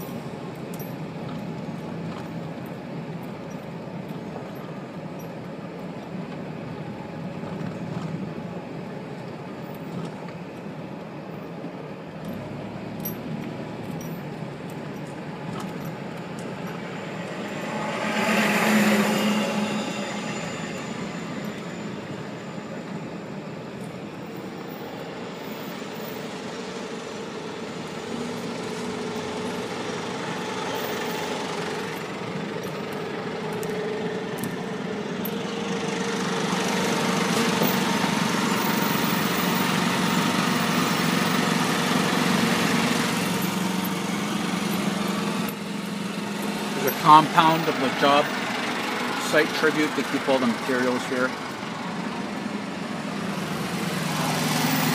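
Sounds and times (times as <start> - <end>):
dump truck passing: 0.0 - 54.9
vehicle engine and tyre noise: 0.0 - 54.9.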